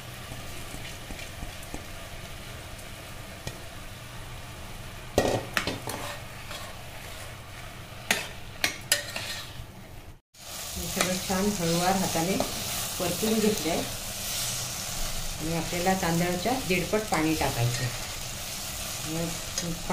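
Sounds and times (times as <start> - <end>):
rice sizzling in oil: 0.0 - 19.9.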